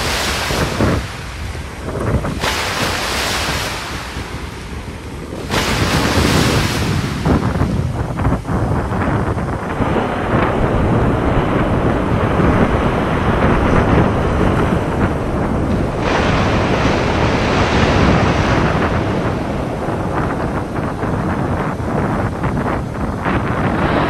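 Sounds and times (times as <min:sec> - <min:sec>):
surging water: 0:00.0 - 0:24.0
wind rushing: 0:00.0 - 0:24.0.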